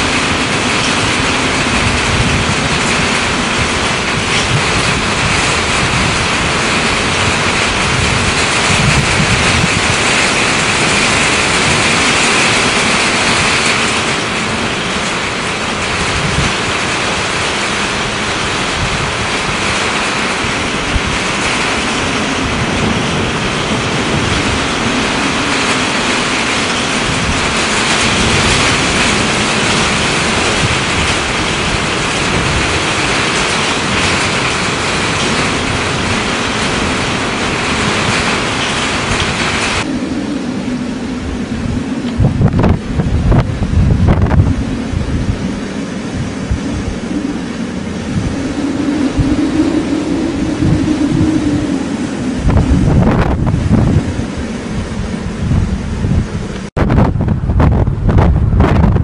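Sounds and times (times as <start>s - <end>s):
strong wind gusting: 0.0s - 59.0s
wind buffeting microphone: 0.0s - 59.0s.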